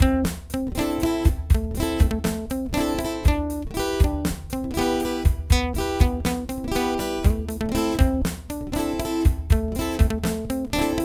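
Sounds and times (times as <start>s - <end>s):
guitar music over low beat: 0.0s - 11.0s.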